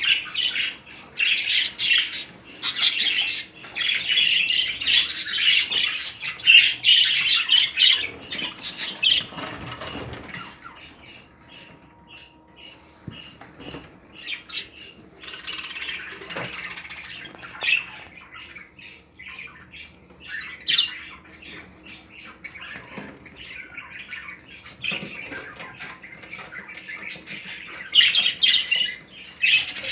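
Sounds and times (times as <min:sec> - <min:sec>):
budgerigars chattering and squawking: 0:00.0 - 0:29.9.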